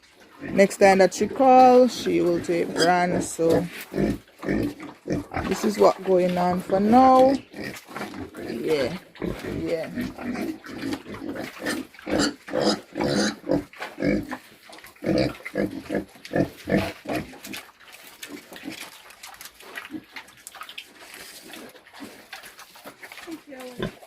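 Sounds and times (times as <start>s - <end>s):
pigs grunting: 0.3s - 24.0s.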